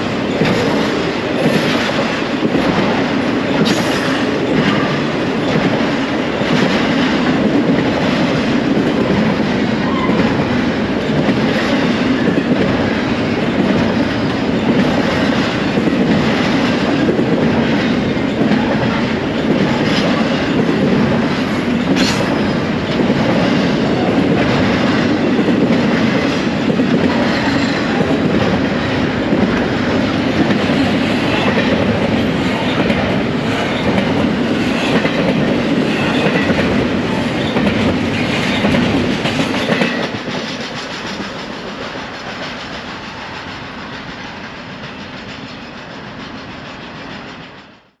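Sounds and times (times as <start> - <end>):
freight train rumbling past: 0.0 - 48.0
steel wheels clattering over rails: 0.0 - 48.0.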